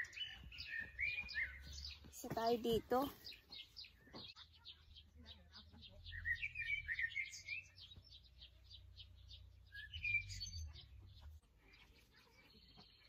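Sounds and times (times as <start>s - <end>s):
songbirds chirping and singing: 0.0s - 13.0s.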